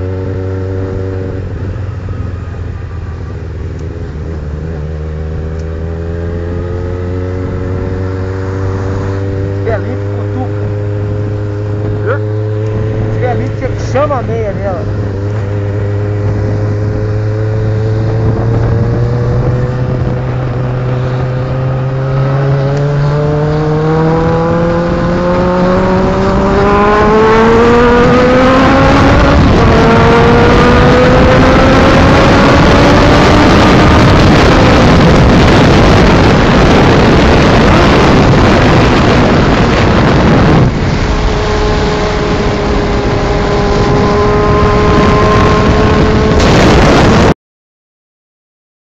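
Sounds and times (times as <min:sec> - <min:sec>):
car engine accelerating loud exhaust: 0:03.0 - 0:47.3.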